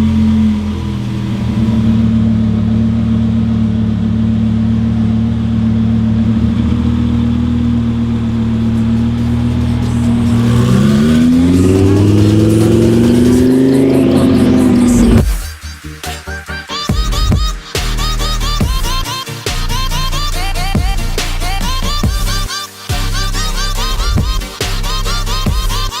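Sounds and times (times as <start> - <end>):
sports car engine accelerating: 0.0 - 15.6, 19.6 - 22.5, 23.1 - 25.9.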